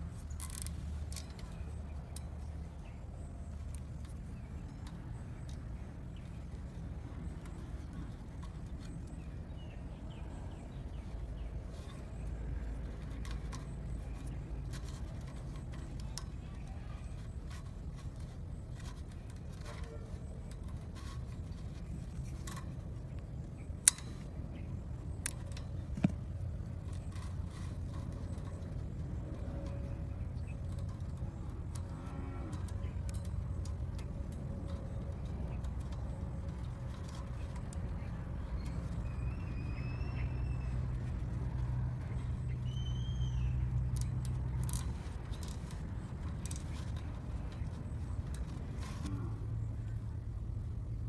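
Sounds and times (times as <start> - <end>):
plastic cable ties clicking: 0.0 - 49.1
steady low rumble: 0.0 - 51.0.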